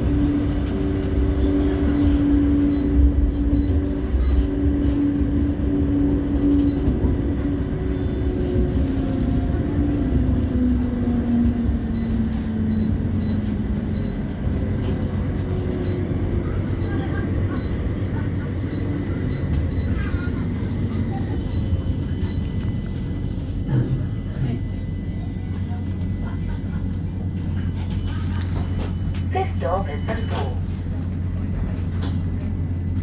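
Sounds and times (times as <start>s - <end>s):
tram wheels rumbling on rail: 0.0s - 33.0s.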